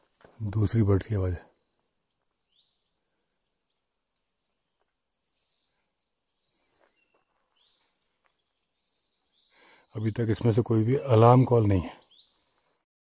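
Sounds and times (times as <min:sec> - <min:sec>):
distant bird chirps: 0:00.0 - 0:12.9.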